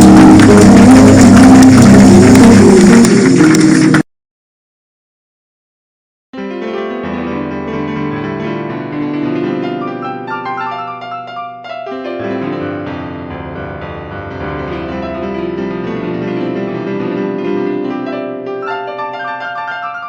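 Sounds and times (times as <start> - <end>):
piano playing held chords: 0.0 - 4.0, 6.4 - 20.0.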